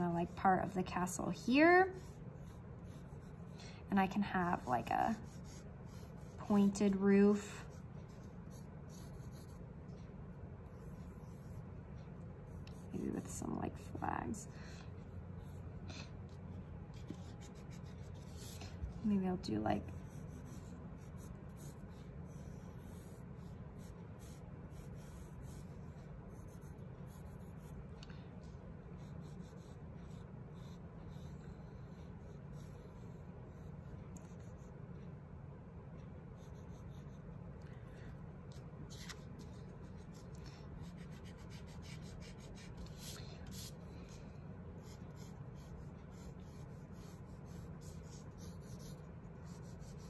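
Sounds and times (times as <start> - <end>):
pencil scratching on paper: 0.0 - 27.8, 28.4 - 34.7, 36.4 - 37.3, 38.5 - 50.0
low room hum: 0.0 - 50.0.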